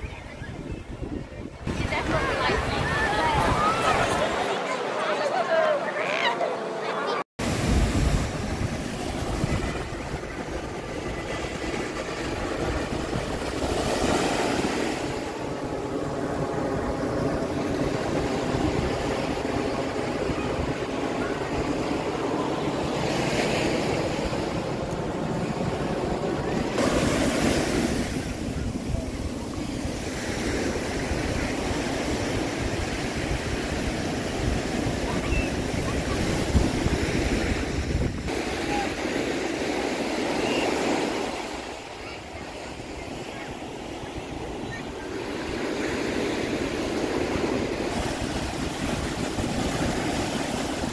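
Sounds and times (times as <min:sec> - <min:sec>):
wind buffeting microphone: 0:00.0 - 0:04.7, 0:07.4 - 0:39.2, 0:40.9 - 0:50.9
ocean surf washing onto beach: 0:01.0 - 0:50.9.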